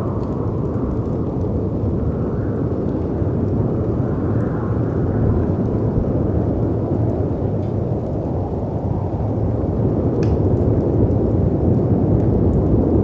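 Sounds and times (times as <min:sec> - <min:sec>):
faint fire crackles: 0:00.0 - 0:13.0
low rumble of wind: 0:00.0 - 0:13.0.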